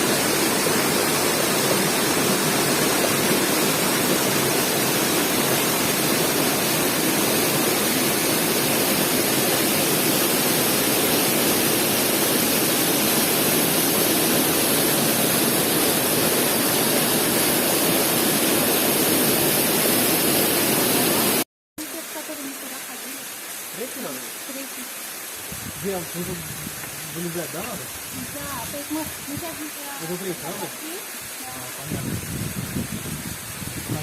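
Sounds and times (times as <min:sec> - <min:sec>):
waterfall rushing: 0:00.0 - 0:32.5.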